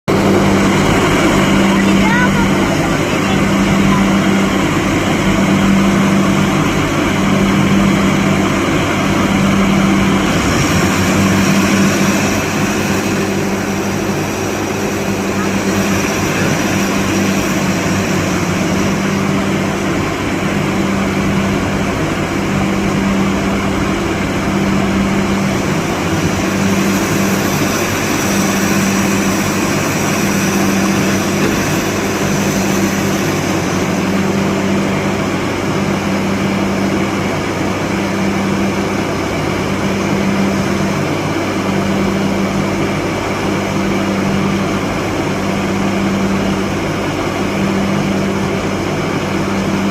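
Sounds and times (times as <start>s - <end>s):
drilling rig engine drone: 0.0s - 49.9s.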